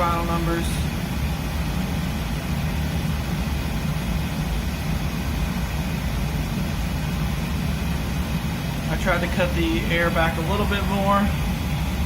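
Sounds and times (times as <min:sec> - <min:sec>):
oil burner rumbling: 0:00.0 - 0:12.0.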